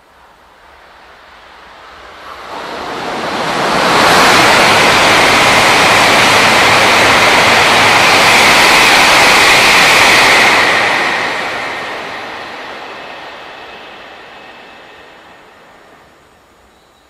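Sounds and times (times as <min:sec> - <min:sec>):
train passing at high speed: 0:00.0 - 0:17.0.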